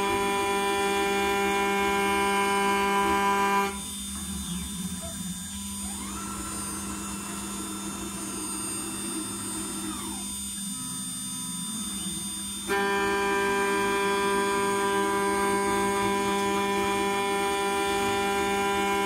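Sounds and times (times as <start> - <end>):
router spindle cutting steel: 0.0 - 19.0
spindle low hum: 0.0 - 19.0
stepper motors whining: 0.0 - 19.0.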